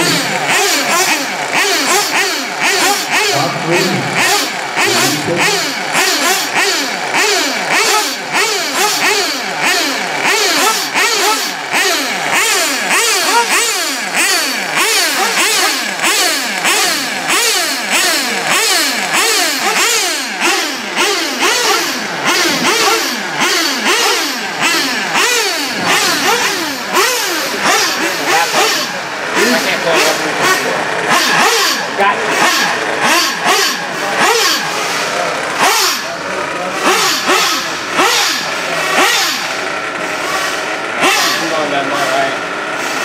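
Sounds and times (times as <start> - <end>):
rc car engines revving: 0.0 - 43.0.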